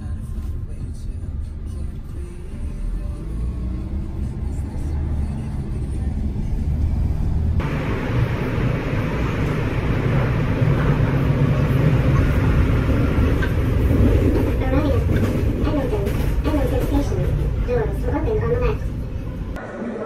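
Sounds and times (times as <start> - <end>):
road rumble inside moving car: 0.0 - 19.6.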